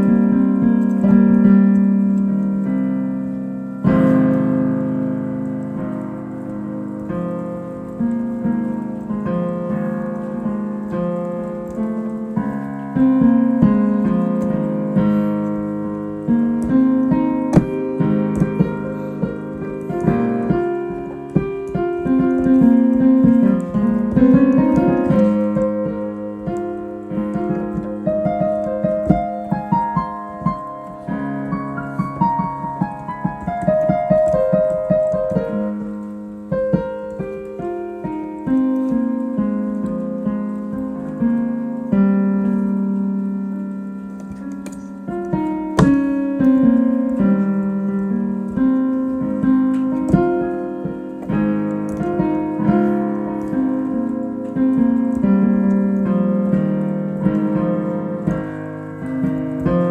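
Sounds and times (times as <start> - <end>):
solo piano improvisation: 0.0 - 59.9.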